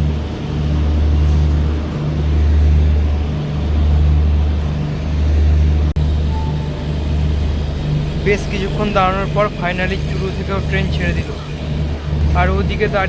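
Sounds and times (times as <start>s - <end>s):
diesel train engine droning: 0.0s - 13.0s.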